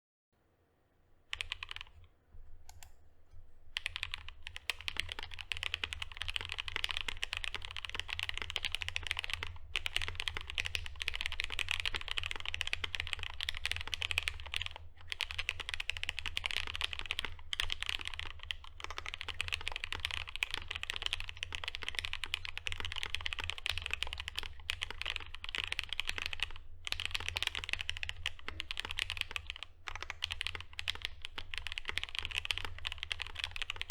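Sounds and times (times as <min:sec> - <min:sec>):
mechanical keyboard typing: 0:01.3 - 0:03.0, 0:03.7 - 0:33.9.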